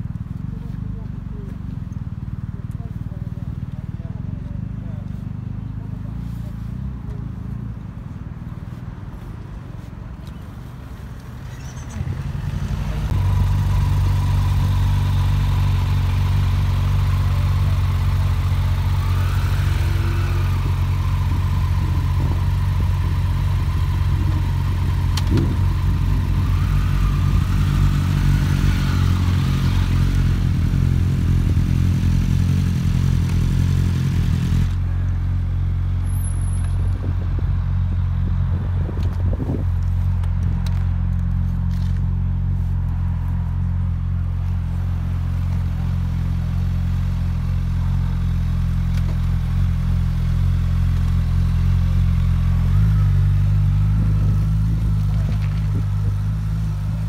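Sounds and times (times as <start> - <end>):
motorcycle engine idling: 0.0 - 8.1, 10.2 - 57.0.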